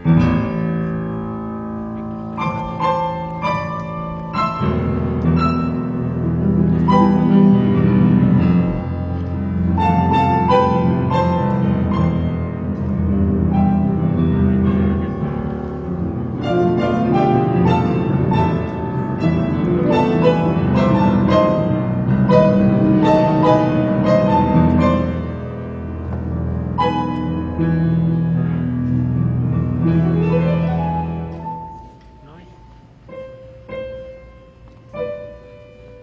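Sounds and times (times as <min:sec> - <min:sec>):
instrumental piano music: 0:00.0 - 0:36.0.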